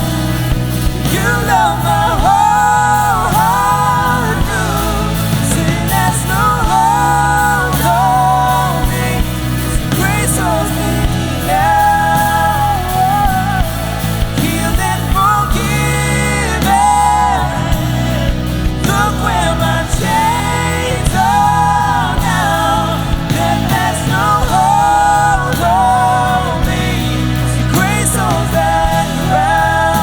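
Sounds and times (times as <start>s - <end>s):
person singing: 0.0s - 30.0s
worship band playing: 0.0s - 30.0s.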